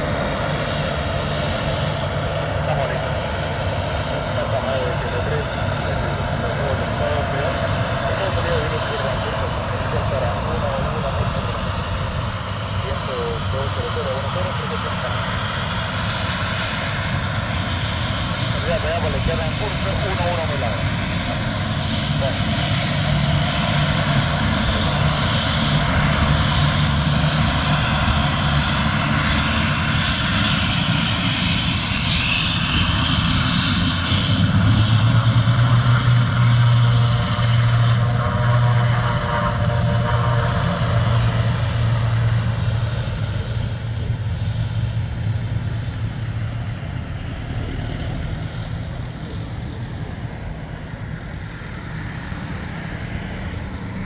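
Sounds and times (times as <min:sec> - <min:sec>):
turboprop aircraft propeller drone: 0:00.0 - 0:54.0.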